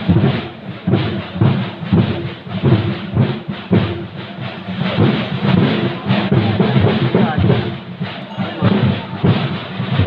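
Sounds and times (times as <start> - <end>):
loud drumming: 0.0 - 10.0
rumbling mass of percussion: 0.0 - 10.0.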